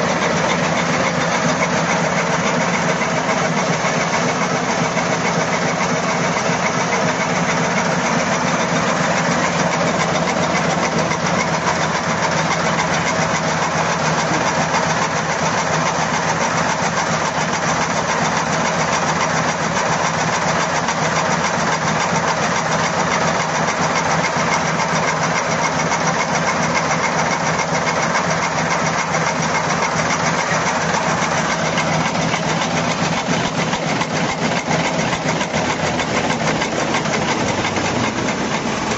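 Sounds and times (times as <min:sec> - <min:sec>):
machine hum: 0:00.0 - 0:21.6, 0:27.8 - 0:38.9
production machine clattering: 0:00.0 - 0:38.9.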